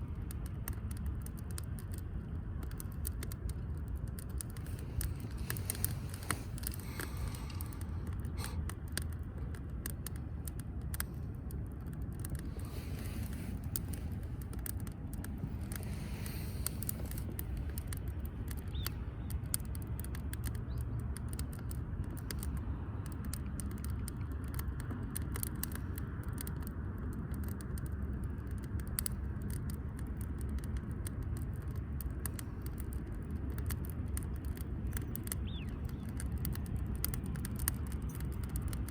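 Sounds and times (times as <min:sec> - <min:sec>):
low steady fire rumble: 0:00.0 - 0:38.9
wood fire crackling and popping: 0:00.0 - 0:38.9.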